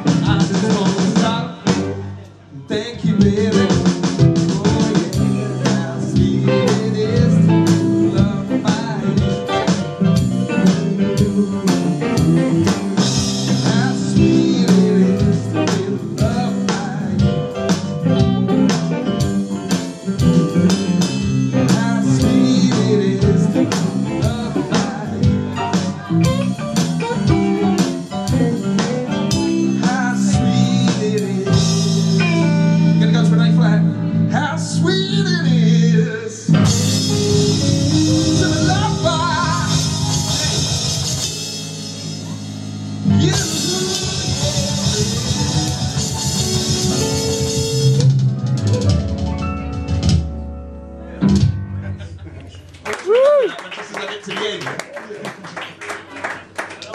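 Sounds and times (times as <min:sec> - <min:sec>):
drum kit beat: 0:00.0 - 0:02.1, 0:03.1 - 0:33.8, 0:36.5 - 0:50.5, 0:51.2 - 0:51.8
live band playing blues: 0:00.0 - 0:53.4
electric guitar: 0:03.1 - 0:52.0.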